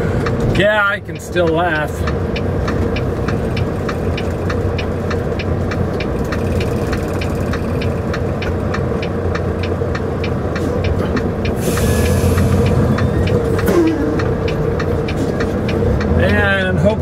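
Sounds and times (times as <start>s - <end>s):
diesel engine idling: 0.0s - 17.0s
turn signal clicking: 0.2s - 17.0s.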